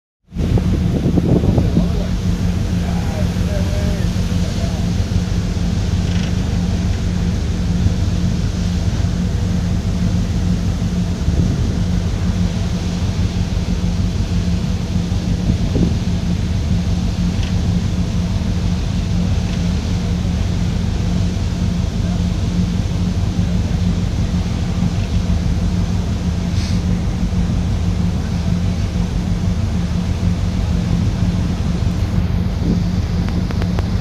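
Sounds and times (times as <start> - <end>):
ferry engines droning: 0.2 - 34.0
wind rumbling on microphone: 0.3 - 34.0.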